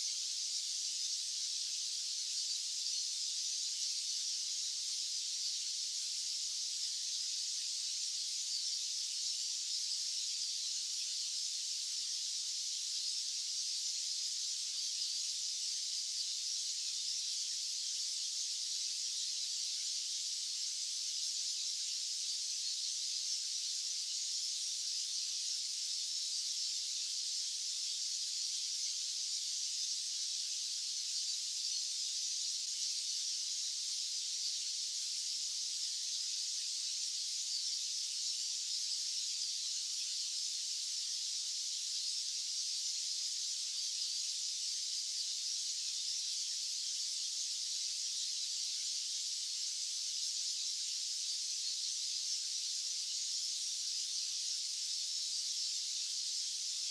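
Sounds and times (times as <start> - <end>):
steady high white noise hiss: 0.0 - 56.9.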